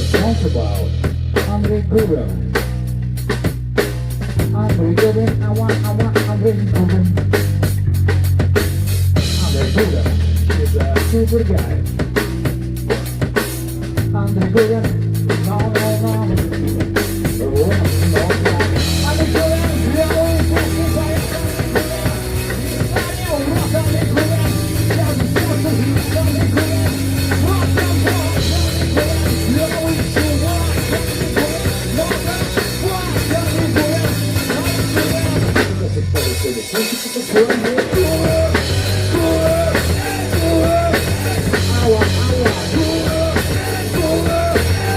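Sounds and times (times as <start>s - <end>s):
bass line: 0.0s - 44.9s
rock drum kit: 0.0s - 44.9s.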